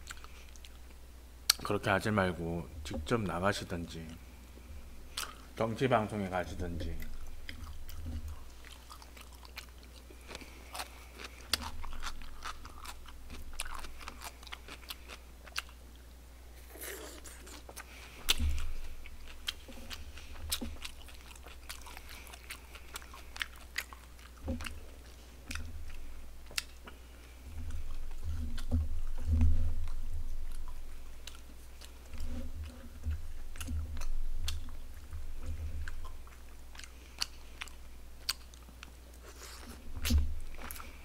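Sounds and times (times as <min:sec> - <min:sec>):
man chewing: 0:00.0 - 0:01.7, 0:04.2 - 0:05.6, 0:06.8 - 0:41.0.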